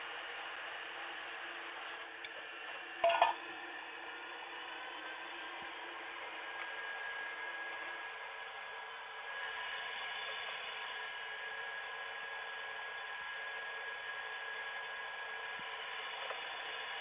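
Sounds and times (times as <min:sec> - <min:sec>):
electric blower whining: 0:00.0 - 0:17.0.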